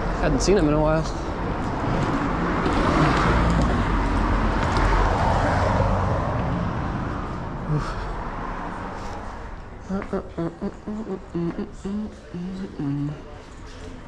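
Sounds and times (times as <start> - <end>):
low engine rumble: 0.0 - 14.0
vehicles passing by: 0.0 - 14.0.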